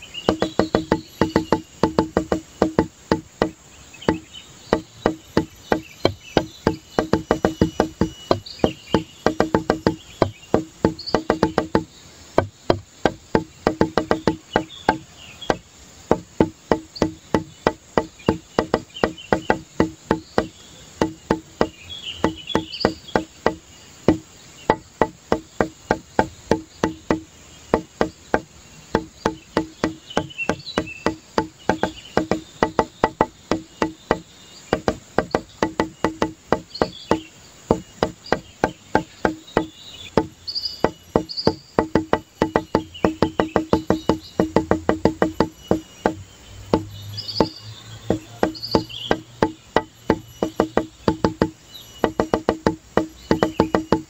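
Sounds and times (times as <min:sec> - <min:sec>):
rapid ringing knocks: 0:00.0 - 0:54.0.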